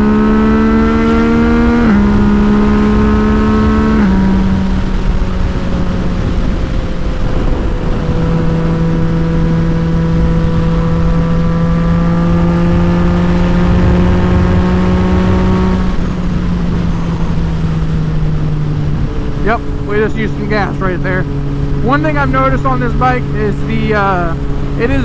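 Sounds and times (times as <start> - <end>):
wind rumble on mic: 0.0 - 20.6
motorcycle engine running: 0.0 - 25.0.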